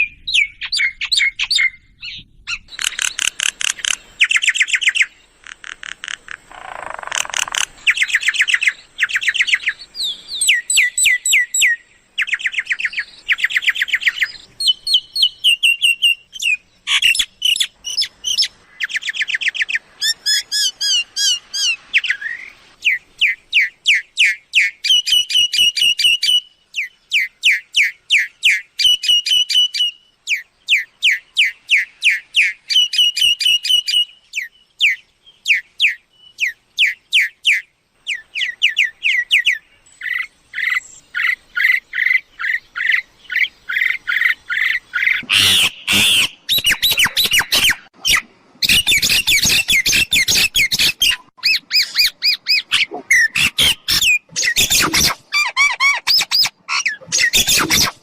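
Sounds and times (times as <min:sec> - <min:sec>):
myna chirping and whistling: 0:00.0 - 0:05.1, 0:06.6 - 0:58.0.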